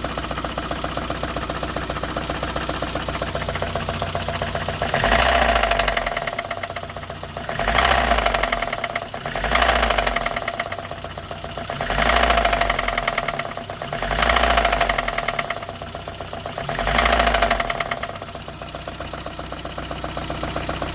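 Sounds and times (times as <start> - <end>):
car engine idling and revving: 0.0 - 20.9
engine knock: 0.0 - 20.9.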